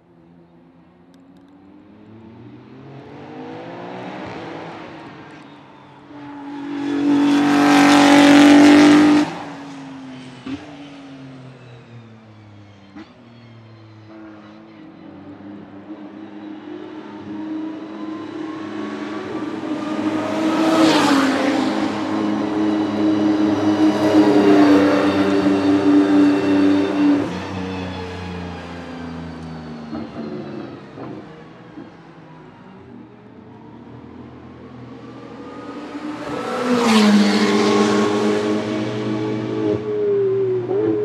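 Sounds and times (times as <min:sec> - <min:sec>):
lower engine note approaching: 0:00.2 - 0:41.0.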